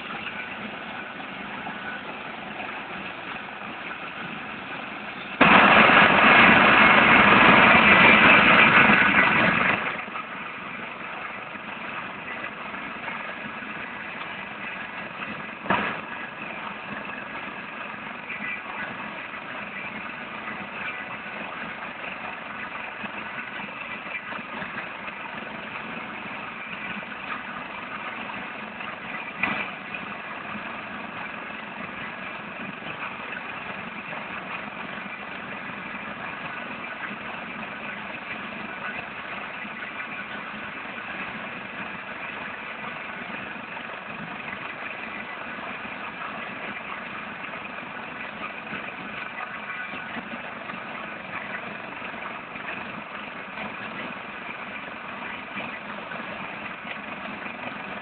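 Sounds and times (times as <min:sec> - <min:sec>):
helicopter rotor noise: 0:00.0 - 0:58.0.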